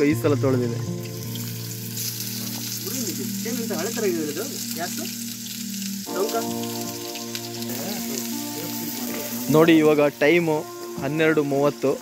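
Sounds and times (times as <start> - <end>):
background music with gliding melody: 0.0 - 12.0
food sizzling in a pot: 0.0 - 12.0.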